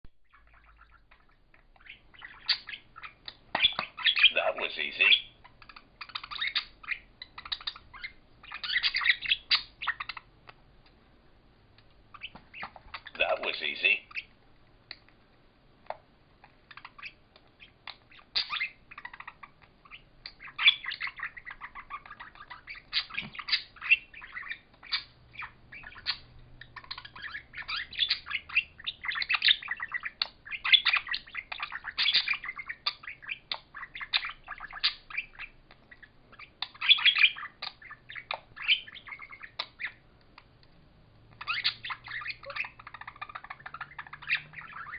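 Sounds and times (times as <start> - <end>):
budgerigars chattering and chirping: 0.3 - 11.0, 12.1 - 15.2, 15.9 - 40.6, 41.3 - 44.9.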